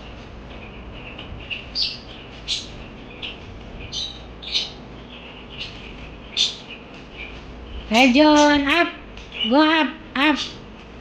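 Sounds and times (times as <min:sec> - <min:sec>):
parakeets chirping: 0:00.0 - 0:10.7.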